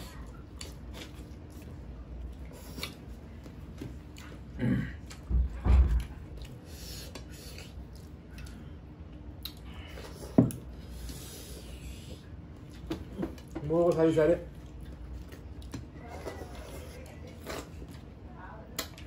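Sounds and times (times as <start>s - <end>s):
chewing: 0.0s - 5.3s, 5.9s - 19.0s.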